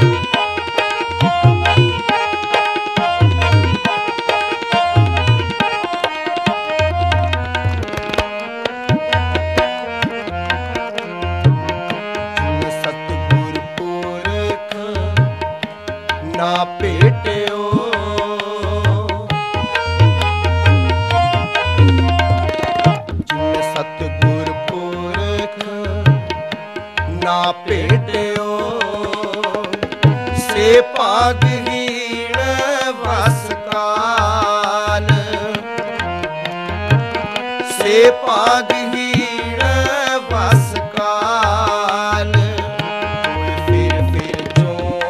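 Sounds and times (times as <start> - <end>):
harmonium melody: 0.0 - 45.0
tabla rhythm: 0.0 - 45.0.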